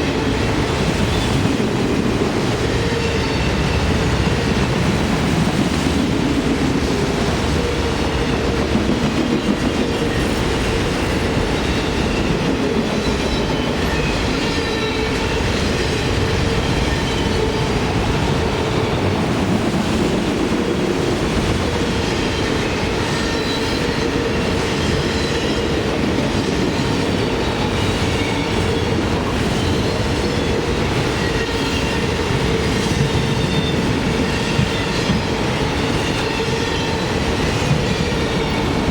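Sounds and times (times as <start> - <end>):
train cars rumbling on tracks: 0.0 - 38.9.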